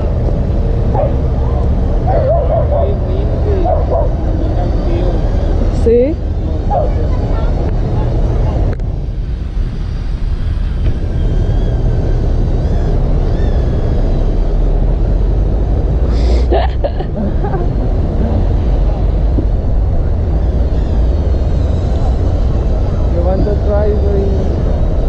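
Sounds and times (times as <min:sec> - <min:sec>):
city traffic: 0:00.0 - 0:25.0
drone propellers whining: 0:00.0 - 0:25.0
wind on microphone: 0:00.0 - 0:25.0.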